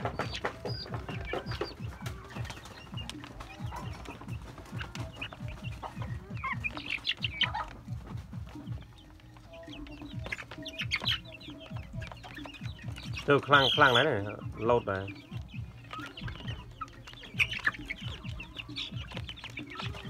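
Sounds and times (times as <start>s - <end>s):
chickens clucking: 0.0s - 20.0s
sharp chicken calls: 0.0s - 20.0s.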